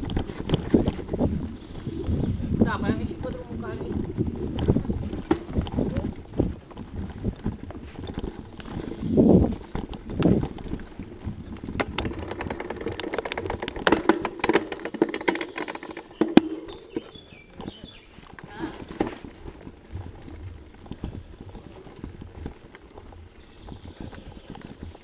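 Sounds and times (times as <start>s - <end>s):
knocks and rattles: 3.4s - 25.0s.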